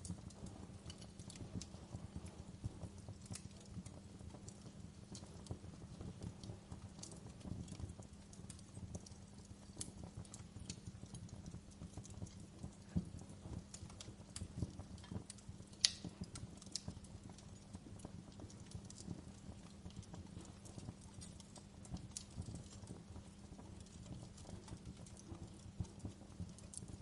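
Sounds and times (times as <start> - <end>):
burning logs rumbling: 0.0 - 27.0
fire snapping and popping: 0.0 - 27.0.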